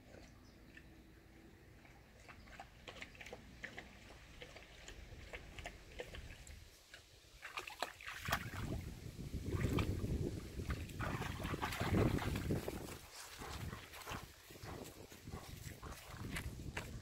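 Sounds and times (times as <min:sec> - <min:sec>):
dog sloshing through water: 0:00.0 - 0:17.0.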